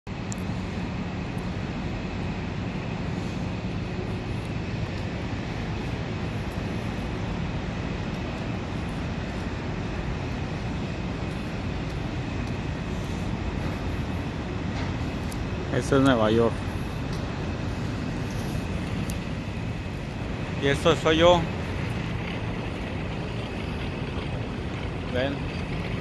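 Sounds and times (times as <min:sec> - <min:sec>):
city street rumble: 0:00.0 - 0:26.0
faint high whine: 0:00.1 - 0:26.0.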